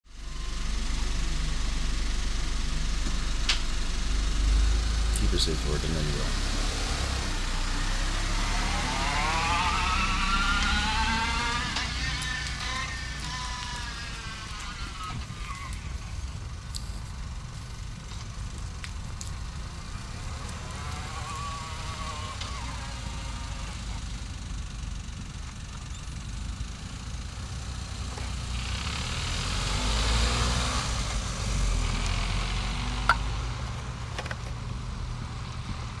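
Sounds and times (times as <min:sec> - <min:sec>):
small car engine driving off: 0:00.1 - 0:36.0.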